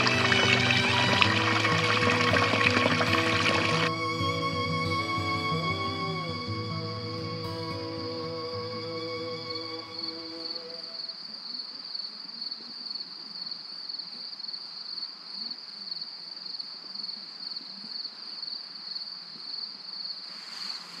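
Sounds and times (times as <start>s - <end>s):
faint outdoor background hiss: 3.2s - 21.0s.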